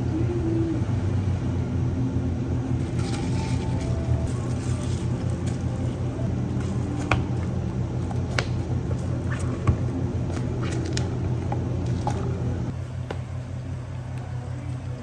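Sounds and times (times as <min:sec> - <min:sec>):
cafe equipment humming: 0:00.0 - 0:15.0.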